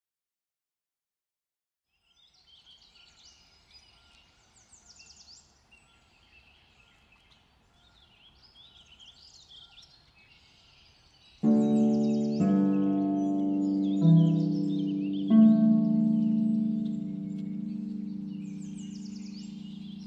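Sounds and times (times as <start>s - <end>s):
songbirds chirping and trilling: 1.9s - 20.0s.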